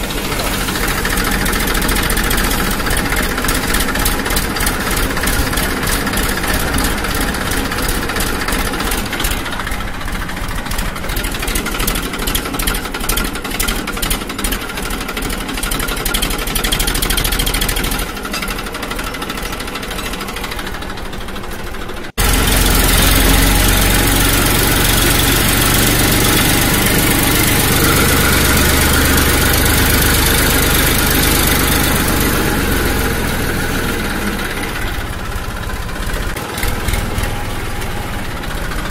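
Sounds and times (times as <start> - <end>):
motor running pulsing: 0.0 - 14.2, 19.2 - 38.9.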